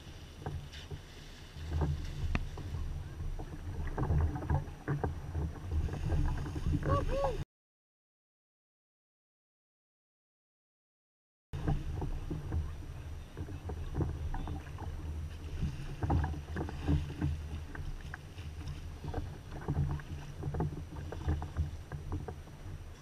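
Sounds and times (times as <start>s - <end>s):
water slapping against kayak hull: 0.0s - 7.4s, 11.6s - 23.0s
wind rumble on microphone: 0.0s - 7.4s, 11.6s - 23.0s.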